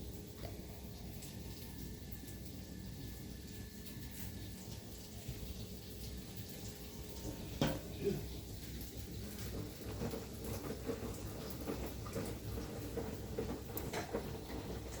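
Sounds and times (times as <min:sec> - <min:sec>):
water sloshing in washing machine: 0:00.0 - 0:15.0.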